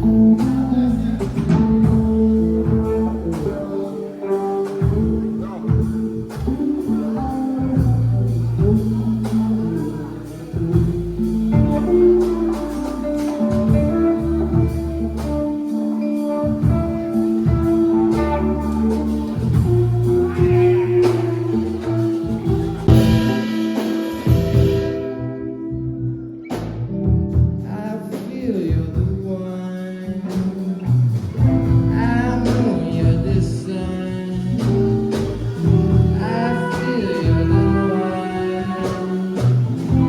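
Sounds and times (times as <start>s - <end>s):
guitar playing: 0.0s - 40.0s
held bass notes: 0.0s - 40.0s.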